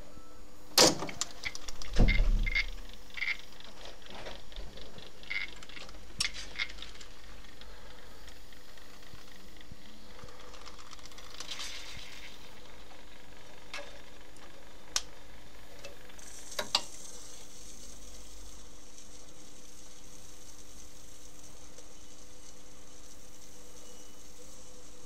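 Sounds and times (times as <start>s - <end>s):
faint mechanism hum: 0.0s - 25.0s
crackly hiss: 0.8s - 25.0s.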